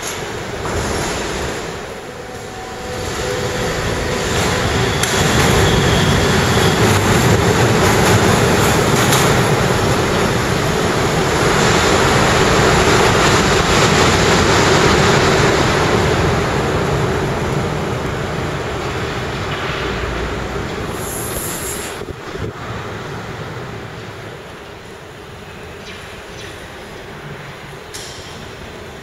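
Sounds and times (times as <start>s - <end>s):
steel wheels rumbling on track: 0.0s - 25.5s.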